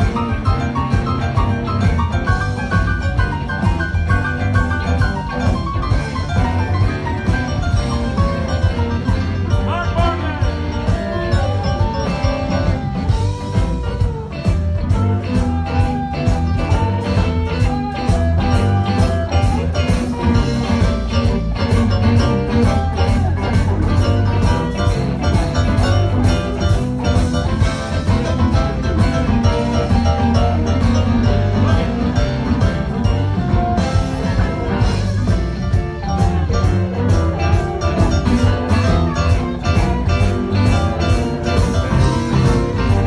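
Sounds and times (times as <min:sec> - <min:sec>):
blues band playing: 0:00.0 - 0:43.0
electric guitar lead with bending notes: 0:00.0 - 0:43.0.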